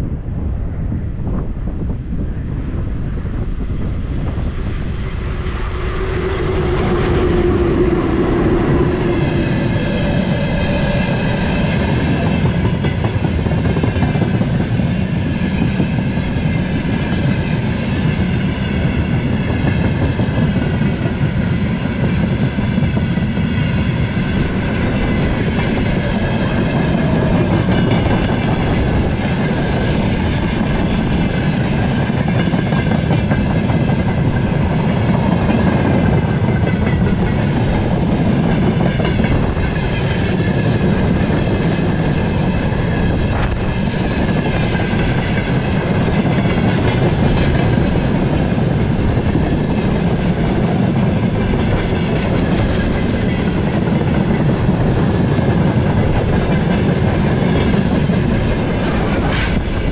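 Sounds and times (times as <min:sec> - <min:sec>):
train rumble: 0:00.0 - 0:59.9
train wheels clattering over rails: 0:07.3 - 0:59.9.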